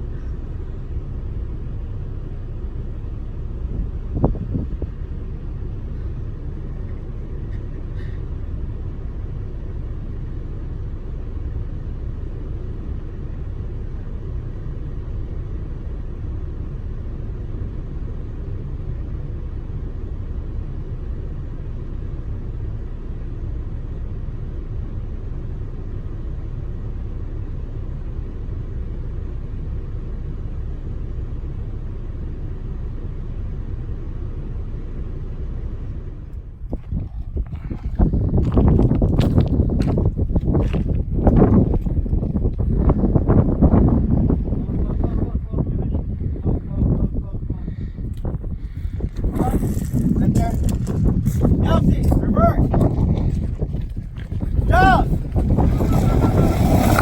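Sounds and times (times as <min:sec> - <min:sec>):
truck rumbling on dirt trail: 0:00.0 - 0:57.0.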